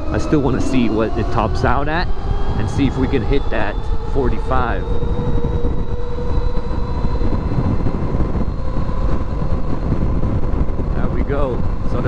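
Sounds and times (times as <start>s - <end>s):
electric motor whine: 0.0s - 12.0s
wind rushing over microphone: 0.0s - 12.0s.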